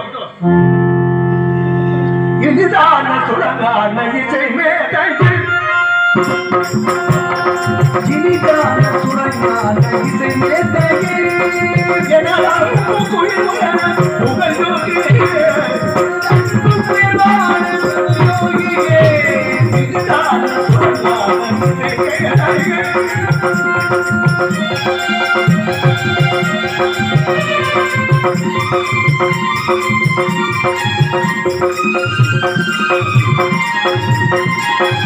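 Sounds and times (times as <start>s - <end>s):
pitch-bending melody line: 0.4s - 35.0s
hand drums beating: 6.2s - 35.0s.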